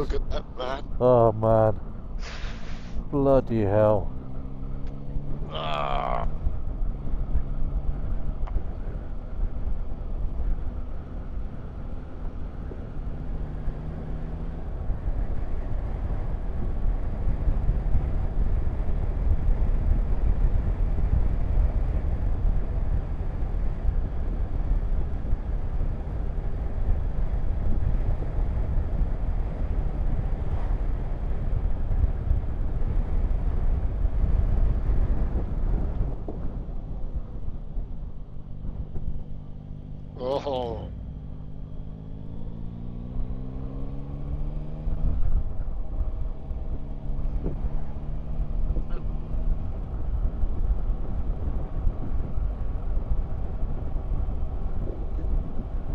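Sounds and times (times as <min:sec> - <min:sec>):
wind rushing over microphone: 0:04.2 - 0:40.1, 0:41.4 - 0:55.9.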